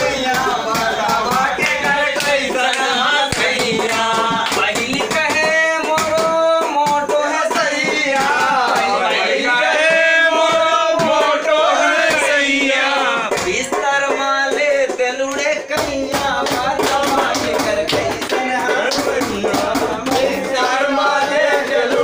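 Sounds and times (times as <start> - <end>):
men singing folk song: 0.0 - 22.0.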